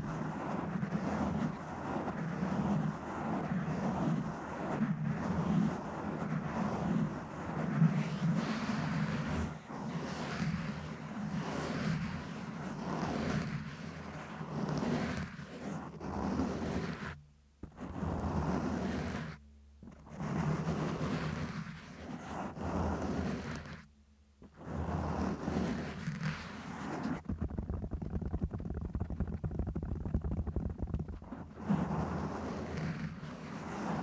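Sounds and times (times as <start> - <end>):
scratching on microphone: 0.0 - 7.5, 10.1 - 23.8, 24.5 - 34.0.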